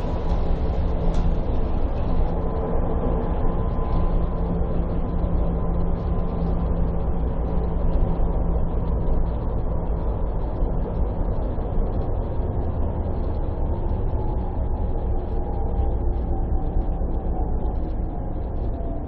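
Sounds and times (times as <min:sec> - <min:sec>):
faint steady hum: 0:00.0 - 0:19.0
tram wheels rumbling on rails: 0:00.0 - 0:19.0.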